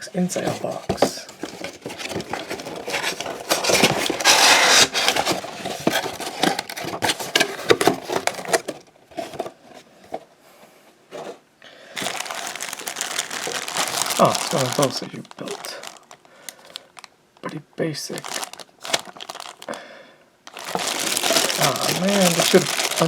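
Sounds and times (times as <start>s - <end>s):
cardboard and plastic packaging rustling: 0.0s - 17.1s, 18.0s - 23.0s.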